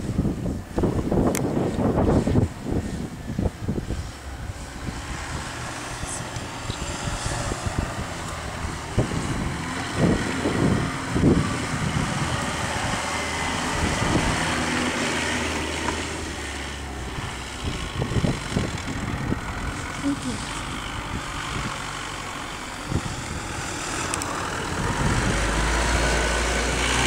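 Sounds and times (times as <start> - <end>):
suv engine running: 0.0 - 27.0
wind buffeting microphone: 0.0 - 27.0.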